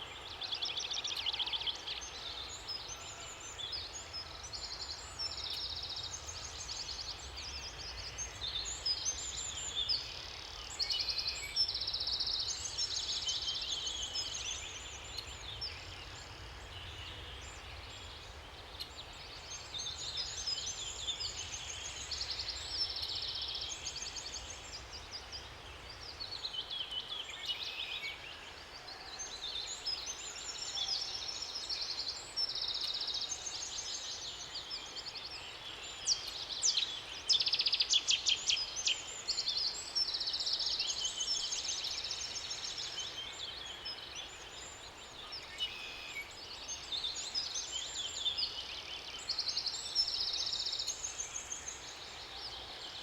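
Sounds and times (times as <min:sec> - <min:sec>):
faint steady background noise: 0:00.0 - 0:53.0
songbirds singing: 0:00.0 - 0:53.0.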